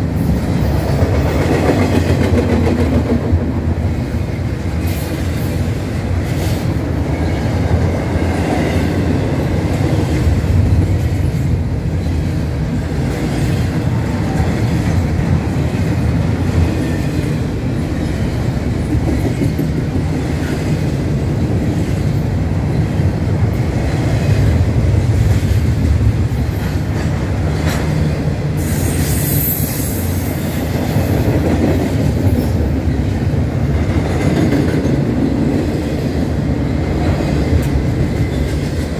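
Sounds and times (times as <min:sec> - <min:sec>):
steel wheels clattering on rail: 0:00.0 - 0:38.9.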